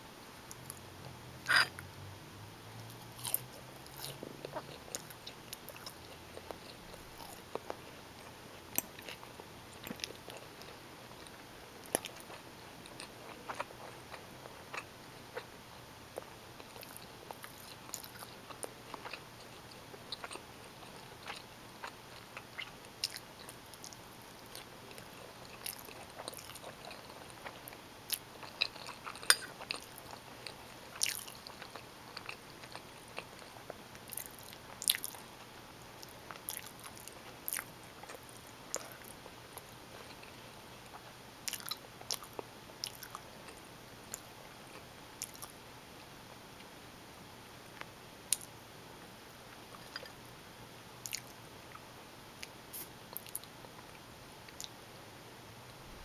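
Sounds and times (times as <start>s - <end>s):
chewing pasta: 1.4s - 1.9s, 2.9s - 15.5s, 16.1s - 45.6s, 49.5s - 50.3s, 51.0s - 54.8s.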